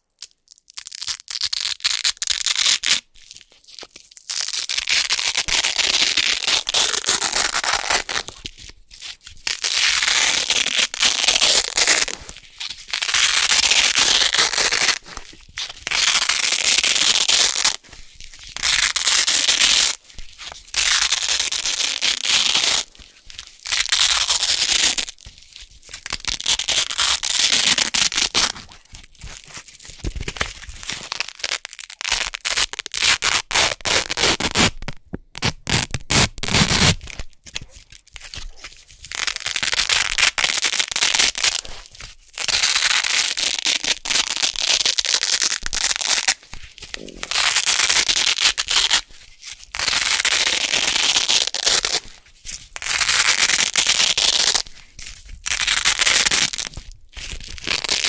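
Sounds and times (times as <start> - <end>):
velcro strips ripping apart: 0.0 - 58.0.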